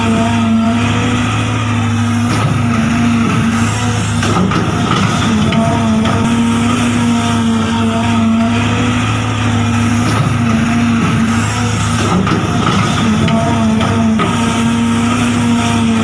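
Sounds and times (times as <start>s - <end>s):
model vehicle motor whine: 0.0s - 16.0s.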